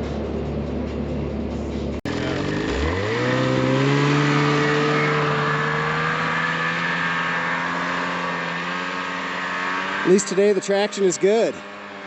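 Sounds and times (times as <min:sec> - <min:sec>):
snowmobile engine at high revs: 0:02.1 - 0:12.0.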